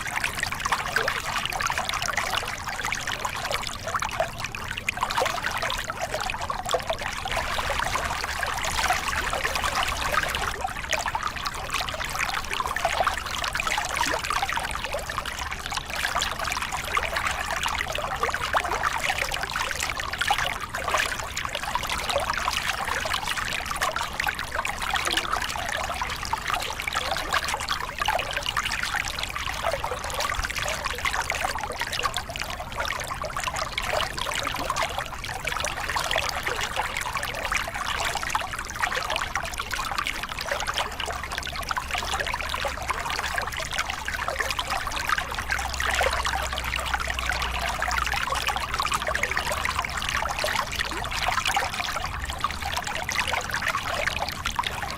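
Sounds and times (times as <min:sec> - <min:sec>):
water splashing over rocks: 0:00.0 - 0:54.9.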